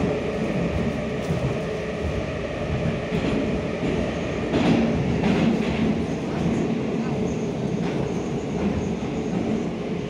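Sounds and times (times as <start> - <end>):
steady train hum: 0.0 - 10.0
train wheels rumbling on rail: 0.0 - 10.0.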